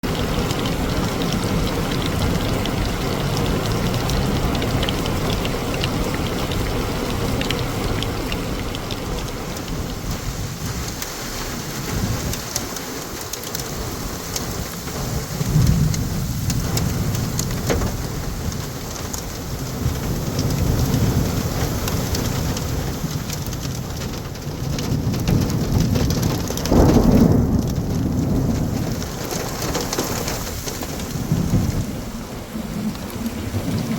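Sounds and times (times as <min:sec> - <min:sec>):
heavy rain: 0:00.0 - 0:33.9
thunder rumbling: 0:00.0 - 0:33.9.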